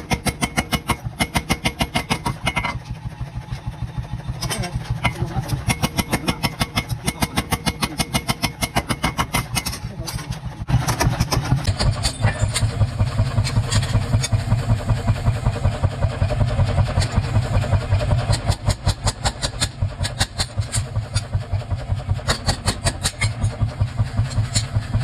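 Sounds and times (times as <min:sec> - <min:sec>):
low motor hum: 0:00.0 - 0:25.0
power hammer pounding iron: 0:00.0 - 0:25.0.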